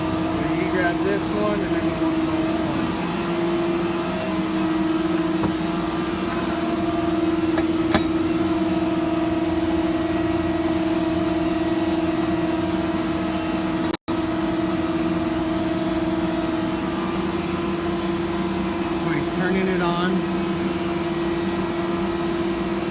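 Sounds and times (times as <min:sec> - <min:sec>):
shop machinery hum: 0:00.0 - 0:22.9.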